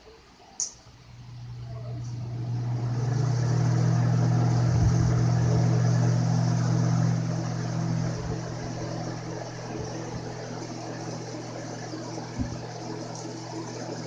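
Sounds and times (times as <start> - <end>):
box fan motor hum: 0.0 - 14.0
air rushing from fan blades: 1.7 - 14.0.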